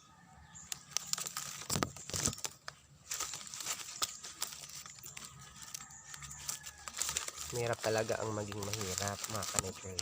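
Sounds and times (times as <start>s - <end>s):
palm leaves rustling and snapping: 0.6s - 10.0s.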